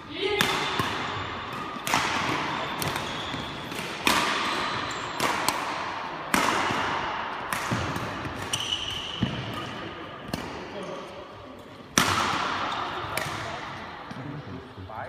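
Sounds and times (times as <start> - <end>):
rackets hitting shuttlecock: 0.2 - 14.2.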